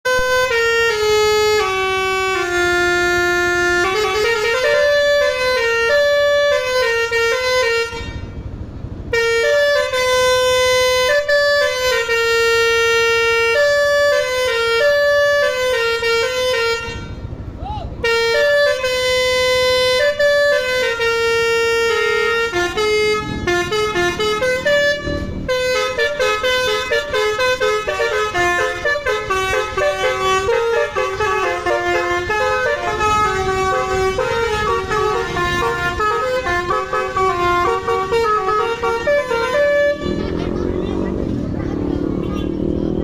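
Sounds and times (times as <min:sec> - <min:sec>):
multi-tone vehicle horn tune: 0:00.0 - 0:17.4, 0:18.0 - 0:43.0.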